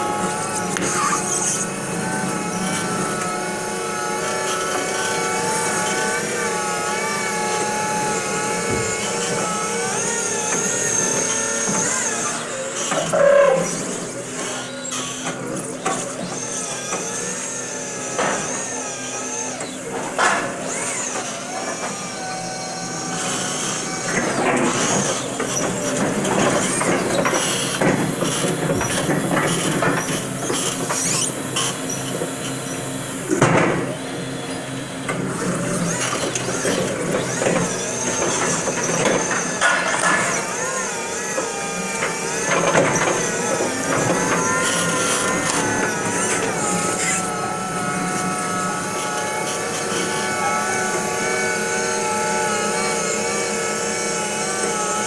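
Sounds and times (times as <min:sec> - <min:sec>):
electric motor and hydraulic whine: 0:00.0 - 0:55.0.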